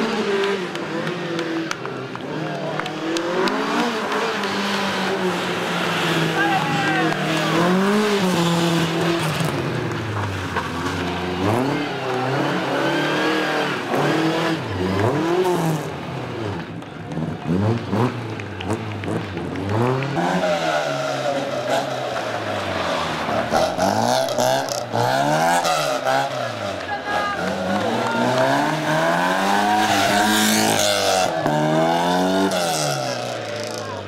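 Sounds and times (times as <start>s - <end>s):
rally car engine revving: 0.0s - 34.0s
second car engine revving: 0.0s - 34.0s.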